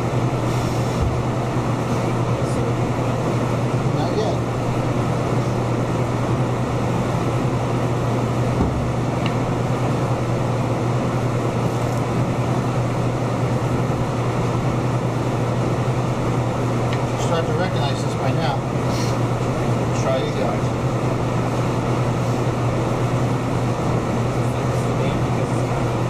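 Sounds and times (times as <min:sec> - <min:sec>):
ventilation fan droning: 0:00.0 - 0:26.0.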